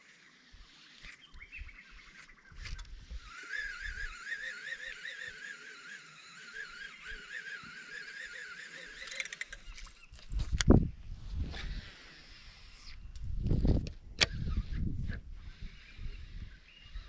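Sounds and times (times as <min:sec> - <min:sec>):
fishing reel gears whirring: 0:00.0 - 0:10.2, 0:11.5 - 0:13.0, 0:14.2 - 0:17.0.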